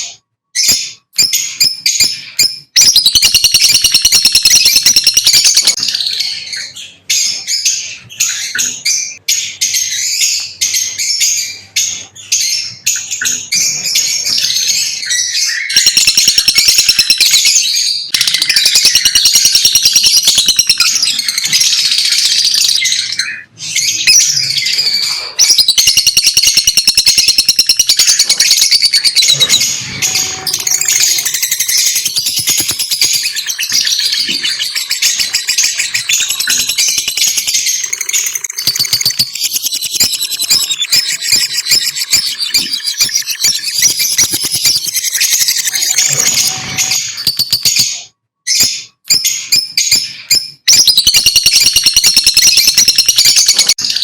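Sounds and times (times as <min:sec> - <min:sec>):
lovebirds chirping: 0:00.0 - 0:54.0.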